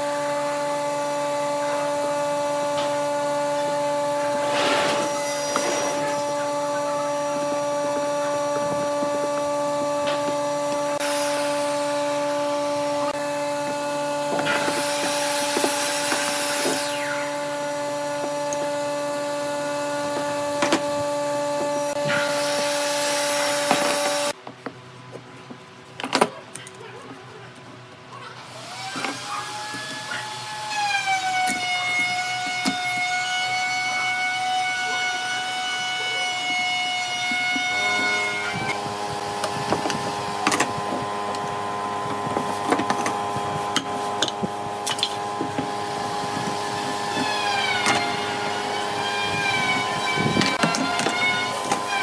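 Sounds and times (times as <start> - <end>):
steady machine hum: 0.0 - 52.0
whining tone: 0.4 - 24.4, 28.6 - 52.0.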